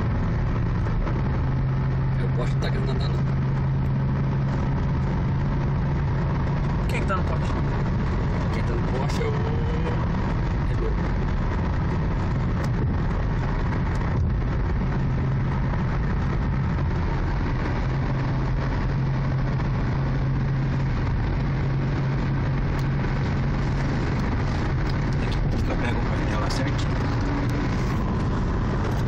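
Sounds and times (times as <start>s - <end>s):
car engine drone: 0.0s - 29.0s
road and tyre noise: 0.0s - 29.0s.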